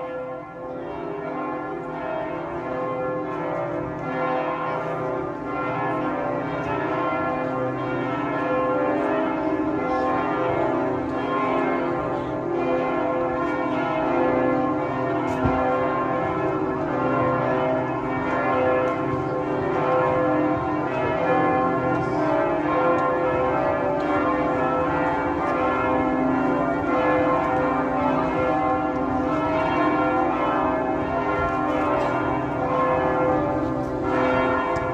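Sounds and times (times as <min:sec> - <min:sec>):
church bells ringing: 0:00.0 - 0:34.9.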